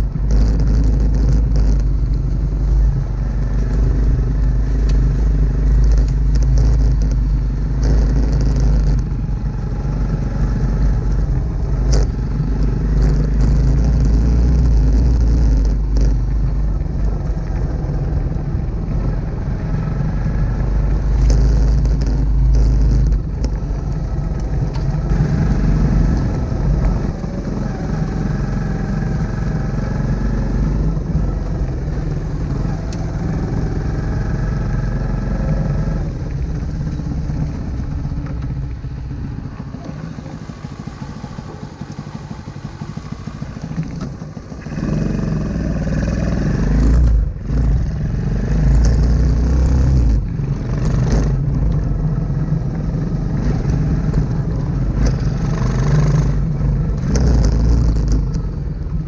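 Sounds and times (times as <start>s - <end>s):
knocks and rattles over rough ground: 0.0s - 59.0s
motorbike engine running: 0.0s - 59.0s.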